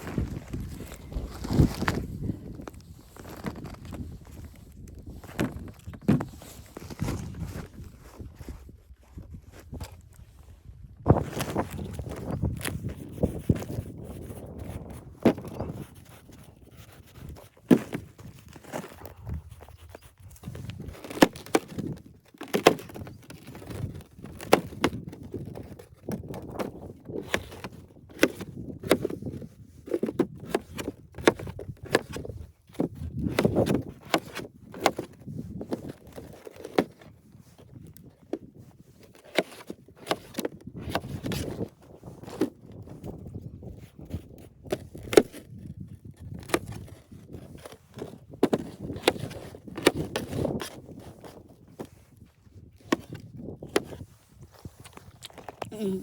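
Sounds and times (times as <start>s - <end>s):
irregular knocks and crunches: 0.0s - 10.2s, 11.1s - 56.0s.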